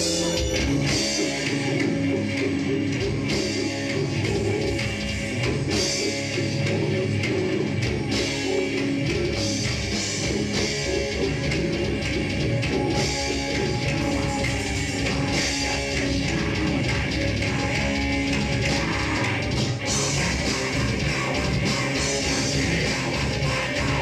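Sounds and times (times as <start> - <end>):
drum kit: 0.0 - 24.0
electric guitars: 0.0 - 24.0
heavy metal band playing: 0.0 - 24.0.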